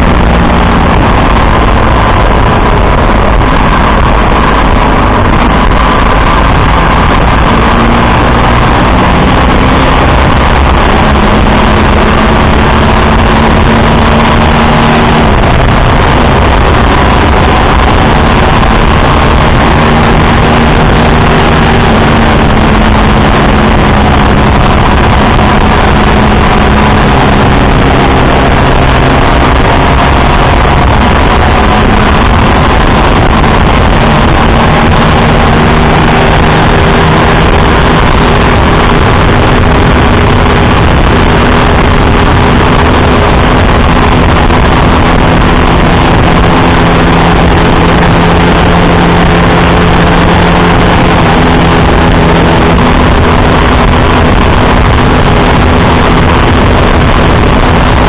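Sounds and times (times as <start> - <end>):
motorcycle engine hum: 0.0 - 58.0
wind rushing on microphone: 0.0 - 58.0.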